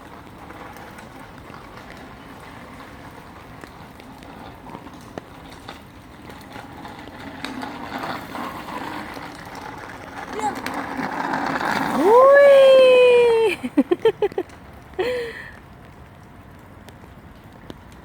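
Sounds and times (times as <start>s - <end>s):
rain and water: 0.0s - 18.0s.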